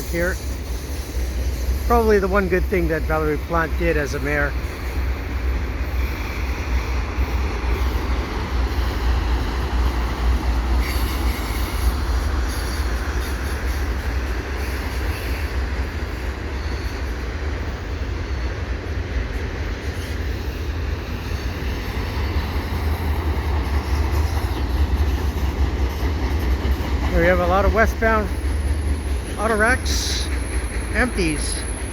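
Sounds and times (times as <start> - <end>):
train wheels rumbling on track: 0.0 - 31.9.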